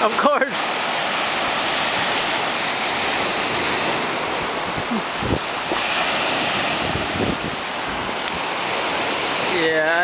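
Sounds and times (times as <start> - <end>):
ocean surf washing onto beach: 0.0 - 10.0
wind buffeting microphone: 1.3 - 9.4.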